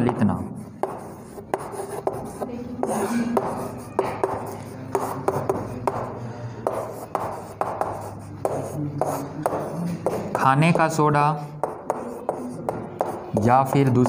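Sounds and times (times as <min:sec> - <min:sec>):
chalk tapping and scratching: 0:00.0 - 0:14.0.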